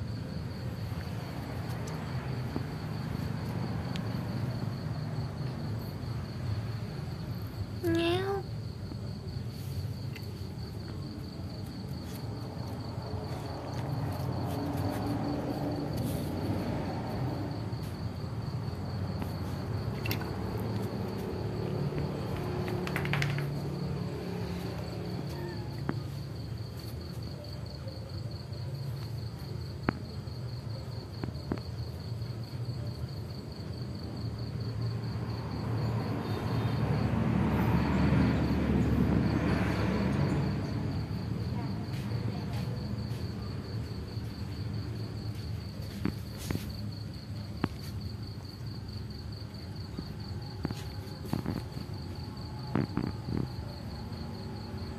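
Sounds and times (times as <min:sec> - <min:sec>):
crickets chirping: 0:00.0 - 0:54.9.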